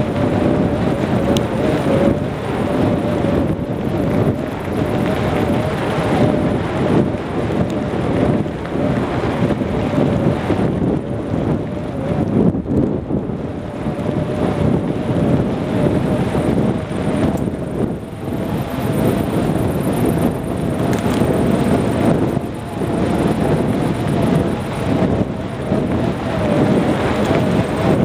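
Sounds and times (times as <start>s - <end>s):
bike rumbling and rattling: 0.0s - 28.0s
faint steady whine: 0.0s - 28.0s
wind buffeting microphone: 0.0s - 28.0s.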